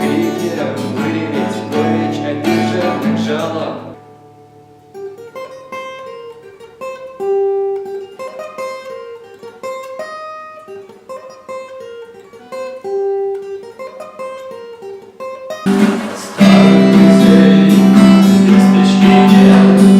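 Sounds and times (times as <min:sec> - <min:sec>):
acoustic guitar picked notes: 0:00.0 - 0:19.9.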